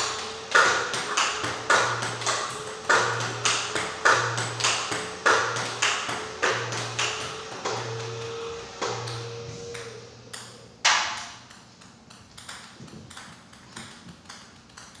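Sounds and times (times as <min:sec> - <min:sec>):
steady electric hum: 0:00.0 - 0:15.0
table tennis balls knocking: 0:00.0 - 0:15.0.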